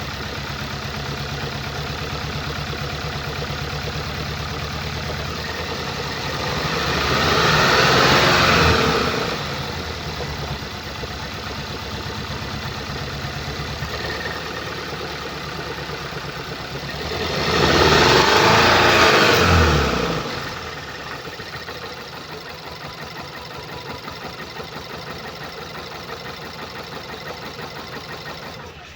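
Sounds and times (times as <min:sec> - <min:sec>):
car engine idling and revving: 0:00.0 - 0:28.9
engine misfire: 0:00.0 - 0:28.9.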